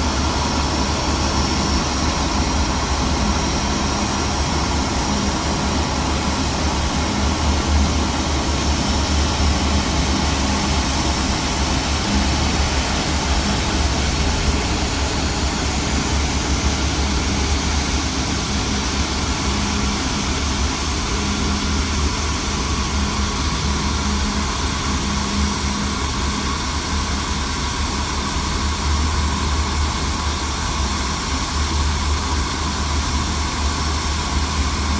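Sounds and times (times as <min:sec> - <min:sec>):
jet engine noise: 0:00.0 - 0:34.9.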